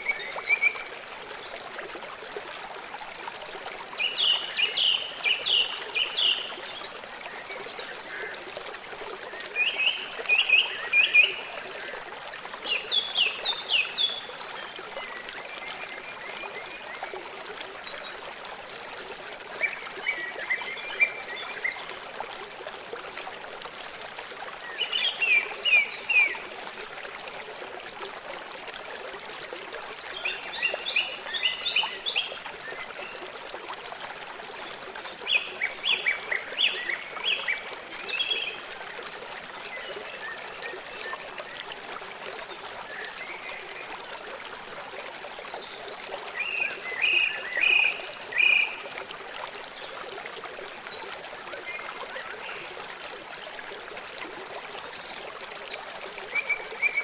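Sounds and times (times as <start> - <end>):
forest stream trickling: 0.0 - 57.0.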